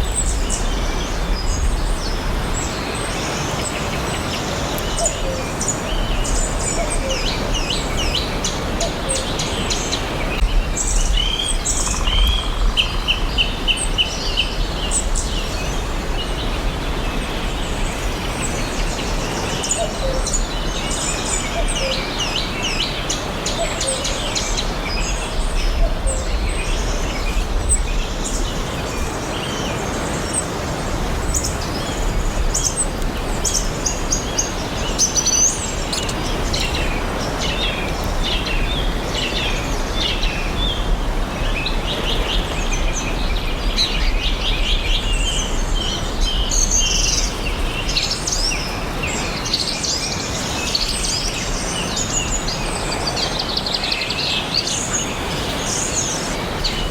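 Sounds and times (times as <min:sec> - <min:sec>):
birds chirping and singing: 0:00.0 - 0:56.9.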